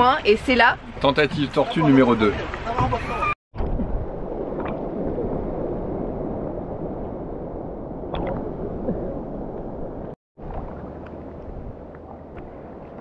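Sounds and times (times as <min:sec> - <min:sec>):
light water splashes: 0:00.0 - 0:07.2, 0:08.0 - 0:13.0
small waves lapping: 0:00.1 - 0:07.2, 0:08.0 - 0:13.0.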